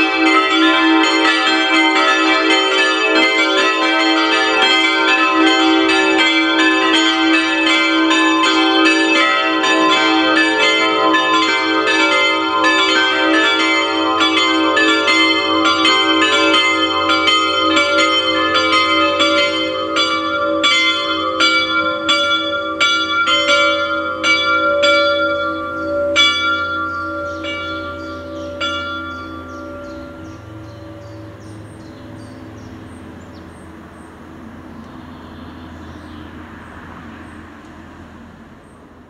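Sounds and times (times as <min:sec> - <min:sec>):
church bells pealing: 0:00.0 - 0:39.0.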